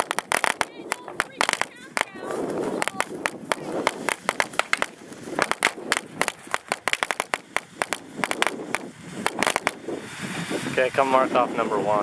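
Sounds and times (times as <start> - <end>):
firecrackers cracking: 0.0 - 10.6.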